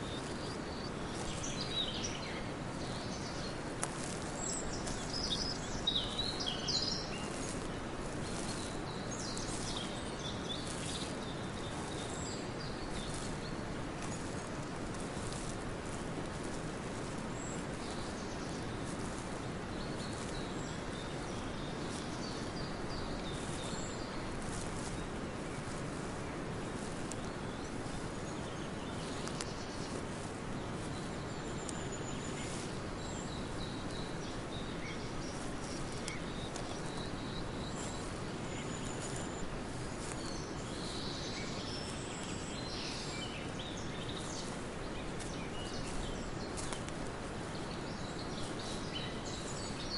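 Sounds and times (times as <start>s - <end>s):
small birds chirping: 0.0s - 49.9s
steady background hiss: 0.0s - 49.9s.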